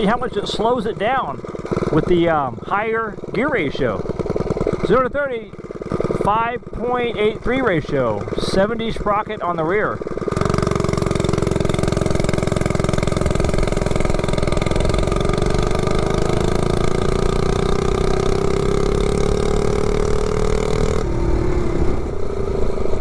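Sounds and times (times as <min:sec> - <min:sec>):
minibike engine at full throttle: 0:00.0 - 0:23.0.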